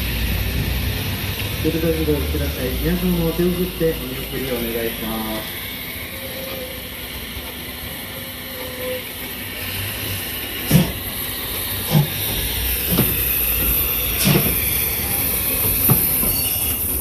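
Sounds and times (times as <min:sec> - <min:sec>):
steam hissing: 0:00.0 - 0:17.0.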